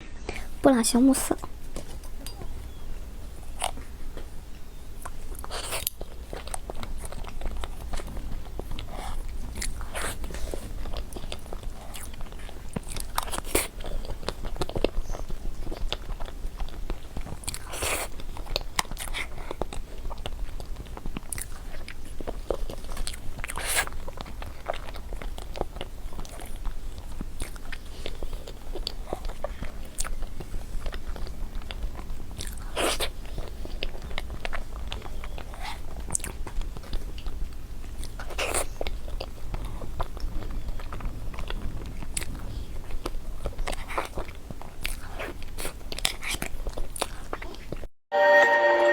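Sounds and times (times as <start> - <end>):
wet bites and chewing: 1.4 - 47.9.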